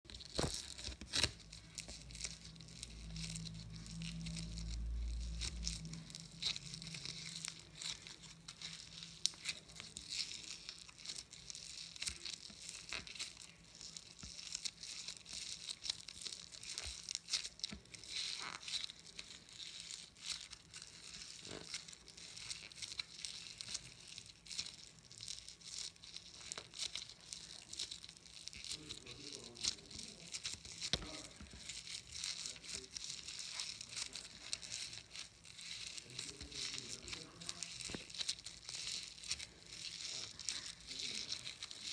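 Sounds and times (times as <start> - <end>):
crunchy slime squeezed by hand: 0.1 - 41.9.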